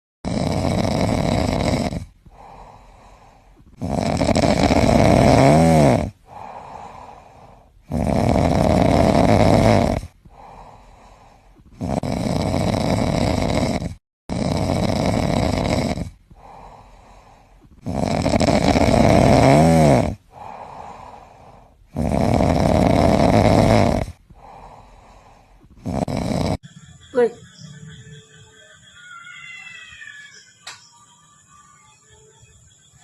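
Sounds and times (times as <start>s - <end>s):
dog snoring: 0.2s - 26.8s.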